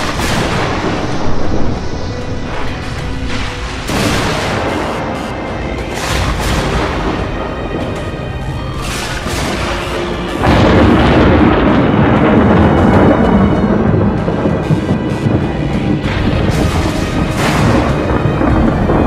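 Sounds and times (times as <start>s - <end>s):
dramatic film score with booms: 0.0s - 19.0s
heavy rumble of thunder: 0.0s - 19.0s.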